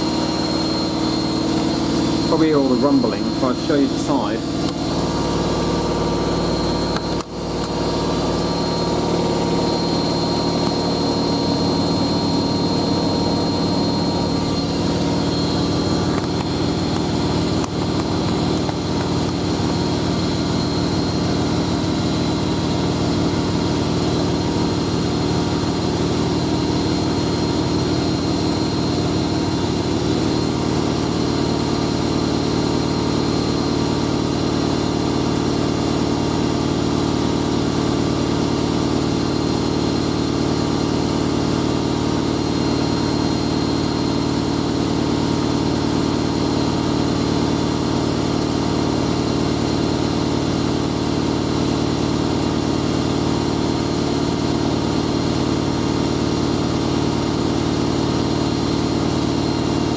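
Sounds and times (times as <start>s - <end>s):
high whine over rumbling drum: 0.0s - 59.9s
washing machine spinning: 0.0s - 59.9s.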